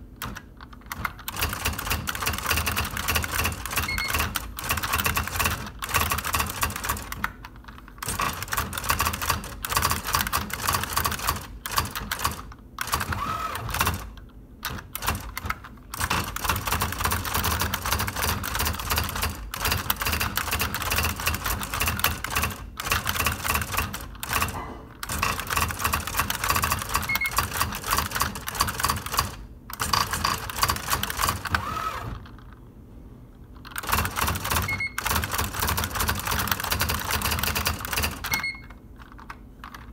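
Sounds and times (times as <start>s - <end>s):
electronic typewriter typing: 0.2s - 32.3s, 33.7s - 39.9s.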